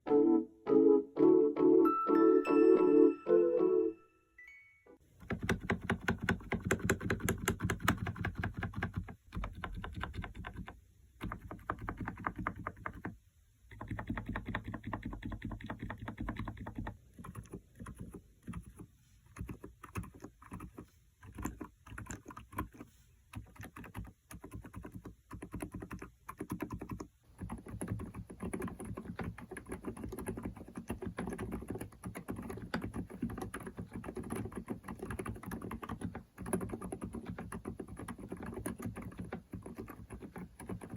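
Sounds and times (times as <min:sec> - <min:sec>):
muted keyboard typing: 0:05.2 - 0:40.9.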